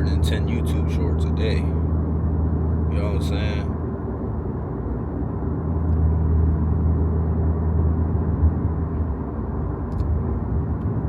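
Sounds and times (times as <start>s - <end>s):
car engine low drone: 0.0s - 11.0s
road noise: 0.0s - 11.0s.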